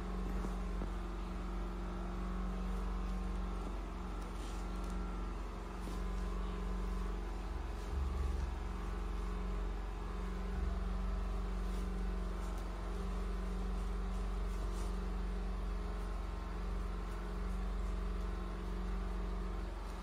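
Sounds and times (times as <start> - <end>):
mechanical hum with low rumble: 0.0 - 20.0.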